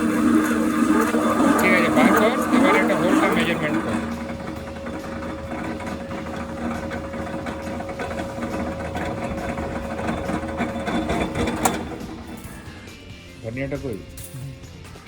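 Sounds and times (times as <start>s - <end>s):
pillar drill whirring: 0.0s - 14.3s.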